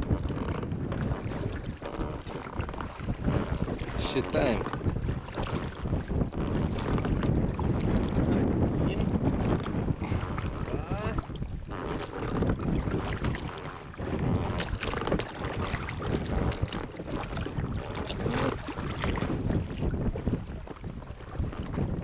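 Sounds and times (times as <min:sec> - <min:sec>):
water sounds: 0:00.0 - 0:22.0
wind buffeting microphone: 0:00.0 - 0:22.0.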